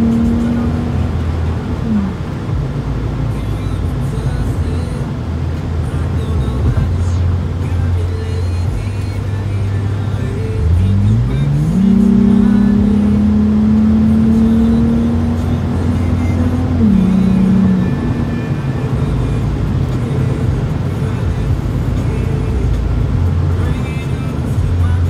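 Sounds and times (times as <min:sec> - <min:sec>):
car exhaust drone from inside cabin: 0:00.0 - 0:25.0.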